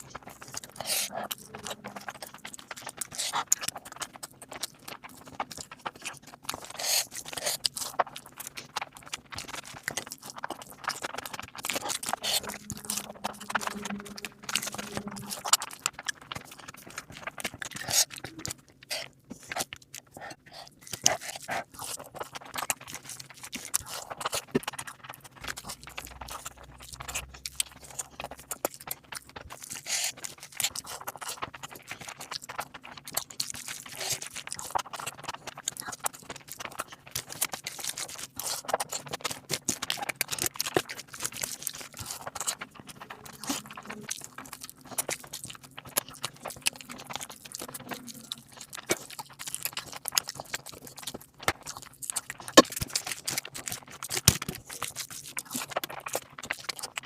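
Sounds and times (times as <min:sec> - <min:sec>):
close chewing with wet crunches: 0:00.0 - 0:57.0.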